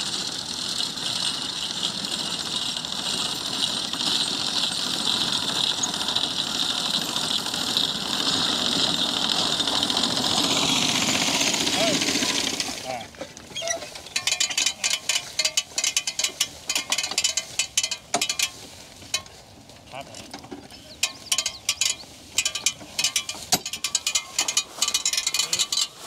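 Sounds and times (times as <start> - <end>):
hay mower clattering: 0.0 - 26.0.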